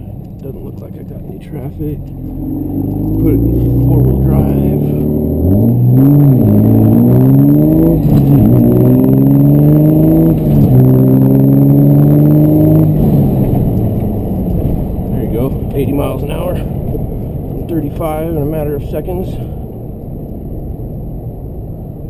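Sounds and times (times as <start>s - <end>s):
diesel truck accelerating hard: 0.0s - 19.9s.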